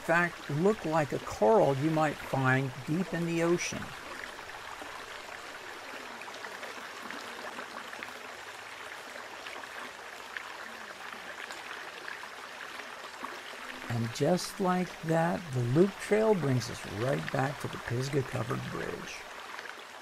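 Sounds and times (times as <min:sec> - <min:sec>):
flowing creek: 0:00.0 - 0:20.0.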